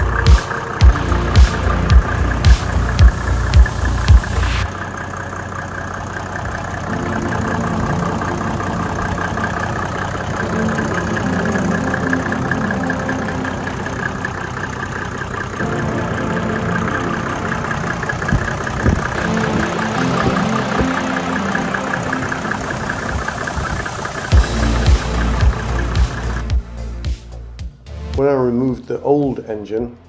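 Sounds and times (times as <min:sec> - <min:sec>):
diesel engine idling: 0:00.0 - 0:28.1.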